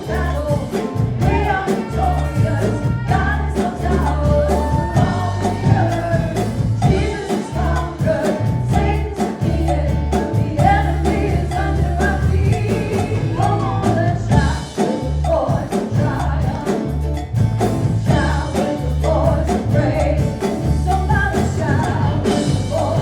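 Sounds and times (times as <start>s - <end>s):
person singing gospel song: 0.0s - 17.2s, 17.8s - 23.0s
band with bass line: 0.0s - 23.0s
cowbell: 0.0s - 23.0s
percussion beat: 0.0s - 23.0s.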